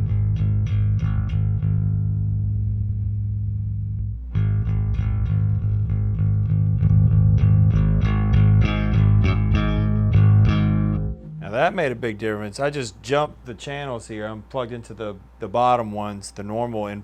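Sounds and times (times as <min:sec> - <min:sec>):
electric bass picked notes: 0:00.0 - 0:14.5.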